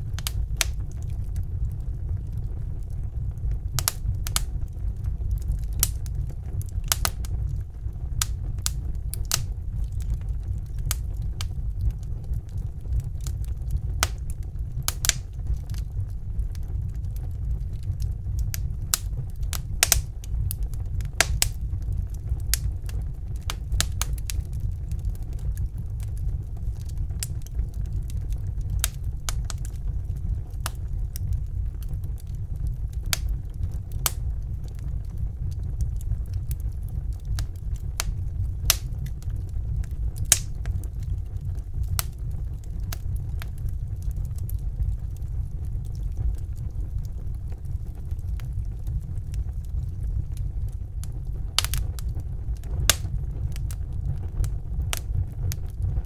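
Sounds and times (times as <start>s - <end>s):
steady low rumble: 0.0s - 56.0s
wood fire crackling: 0.0s - 56.0s.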